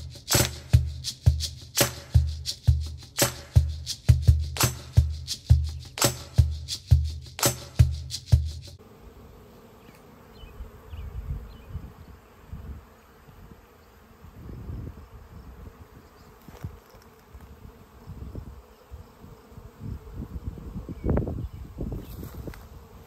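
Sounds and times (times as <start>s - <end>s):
honey bees humming: 0.0s - 23.0s.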